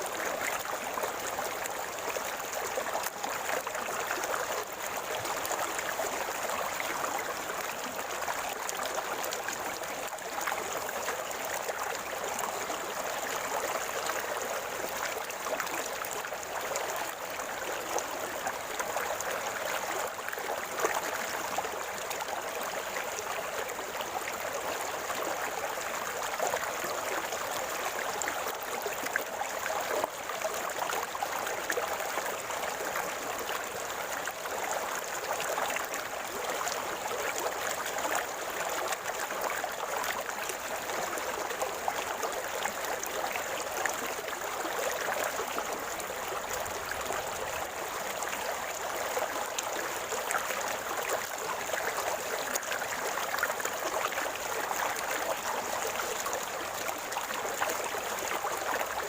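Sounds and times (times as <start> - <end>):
river water flowing and gurgling: 0.0 - 59.0.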